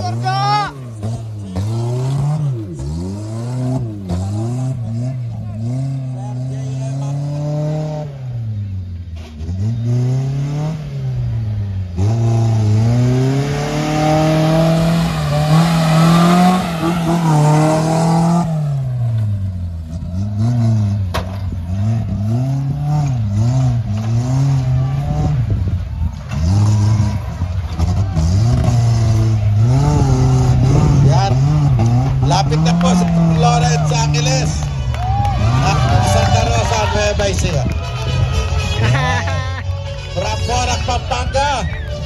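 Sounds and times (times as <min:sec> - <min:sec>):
pickup truck engine revving: 0:00.0 - 0:42.0.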